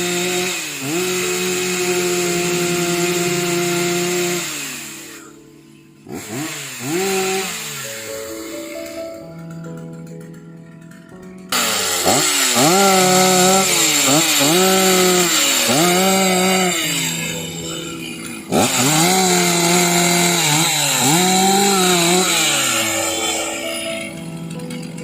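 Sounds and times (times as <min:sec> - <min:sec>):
chainsaw cutting wood: 0:00.0 - 0:09.7, 0:11.5 - 0:25.0
background music: 0:00.0 - 0:25.0.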